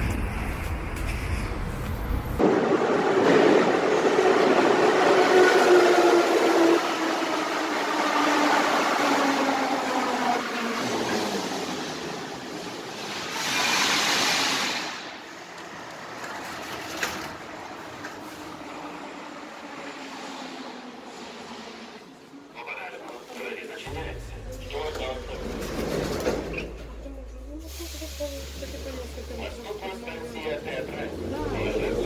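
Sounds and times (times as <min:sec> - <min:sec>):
metro train pulling in: 0:00.0 - 0:32.0.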